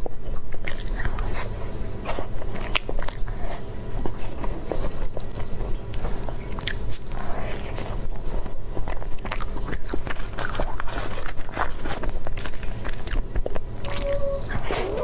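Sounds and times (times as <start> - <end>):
person crunchy chewing: 0.6 - 15.0.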